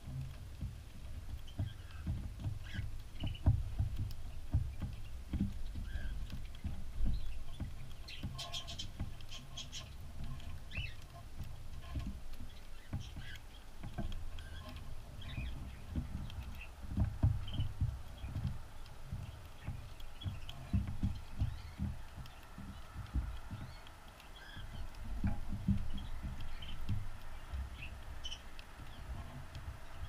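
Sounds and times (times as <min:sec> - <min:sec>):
soft low knocks and bumps: 0:00.0 - 0:30.0.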